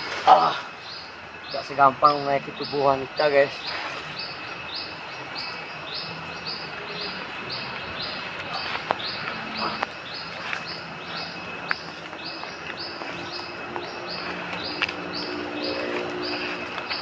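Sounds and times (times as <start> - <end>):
bird chirping: 0.4 - 17.0.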